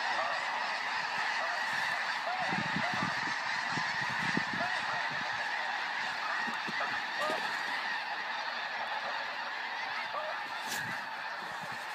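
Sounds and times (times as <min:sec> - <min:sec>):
flock of geese calling: 0:00.0 - 0:11.9.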